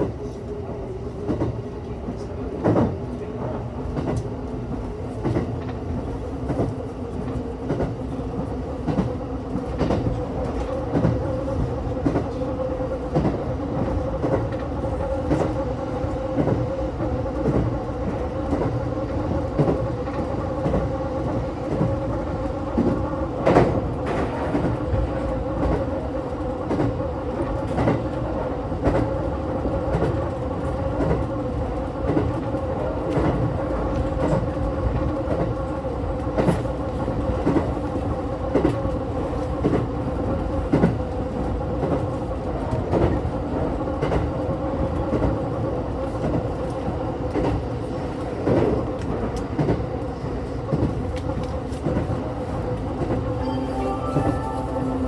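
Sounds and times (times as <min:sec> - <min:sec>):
steady train hum: 0:00.0 - 0:55.0.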